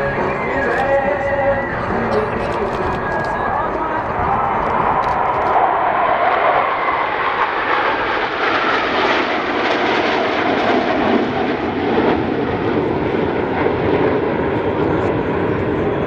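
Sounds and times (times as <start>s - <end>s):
jet aircraft flying past: 0.0s - 16.0s.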